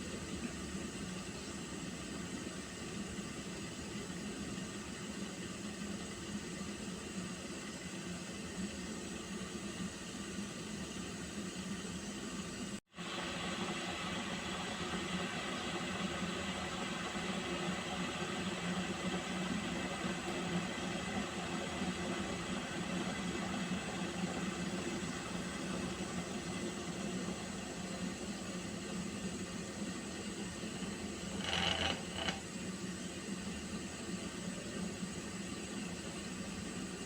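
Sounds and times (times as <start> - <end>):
water heating to a boil: 0.0 - 37.0.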